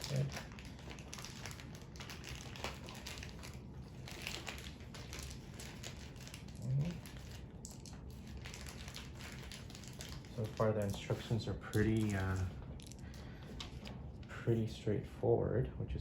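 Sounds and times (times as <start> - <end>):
crinkly rustling: 0.0 - 14.3.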